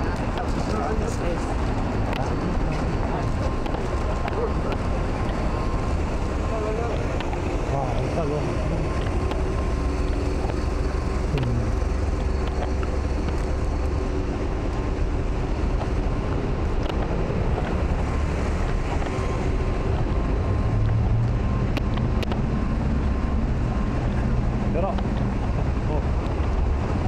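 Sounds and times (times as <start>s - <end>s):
low rumble of traffic: 0.0s - 27.0s
vehicle engine hum: 0.0s - 27.0s.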